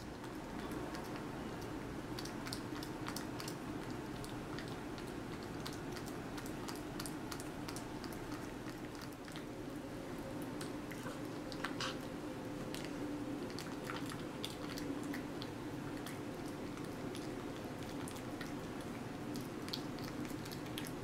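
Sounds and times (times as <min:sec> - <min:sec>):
cat chewing and licking: 0:00.0 - 0:21.0
steady low hum: 0:00.0 - 0:21.0.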